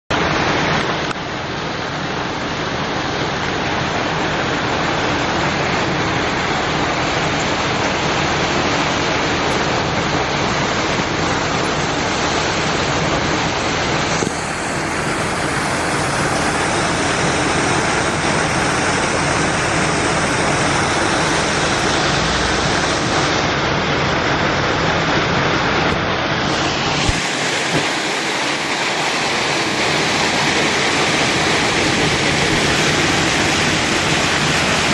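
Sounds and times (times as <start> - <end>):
flowing water rushing: 0.1 - 34.9
water splashing: 3.5 - 34.9.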